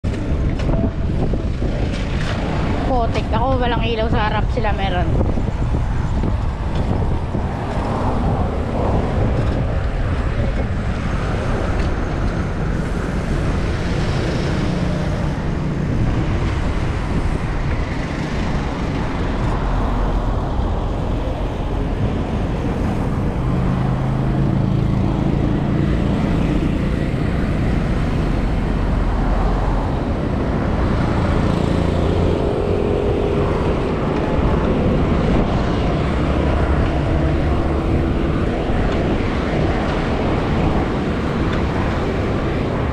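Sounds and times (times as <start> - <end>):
road traffic rumble: 0.0 - 42.9
vehicles passing close by: 0.0 - 42.9.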